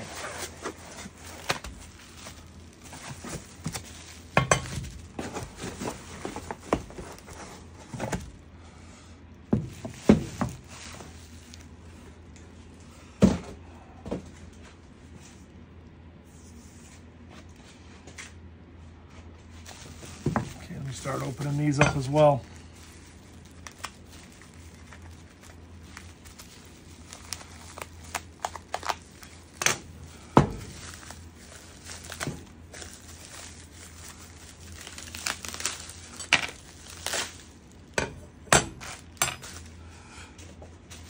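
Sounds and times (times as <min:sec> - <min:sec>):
cardboard and bubble wrap rustling: 0:00.0 - 0:08.6, 0:09.4 - 0:15.5, 0:19.4 - 0:41.0.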